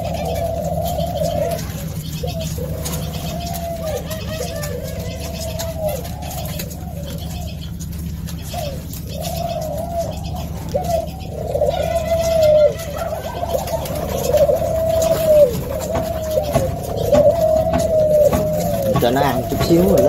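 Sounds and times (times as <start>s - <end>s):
doves cooing: 0.0s - 20.0s
steady low hum: 0.0s - 20.0s.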